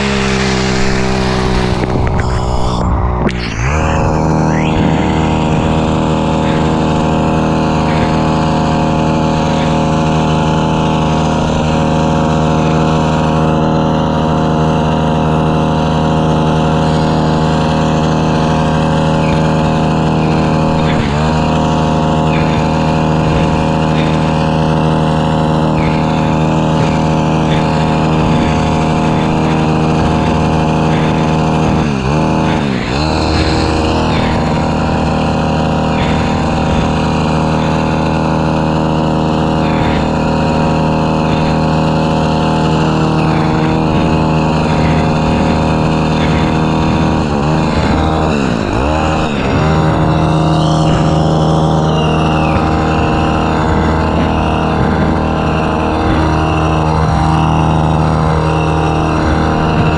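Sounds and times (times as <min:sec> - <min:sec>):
hedge trimmer running: 0:00.0 - 0:59.9.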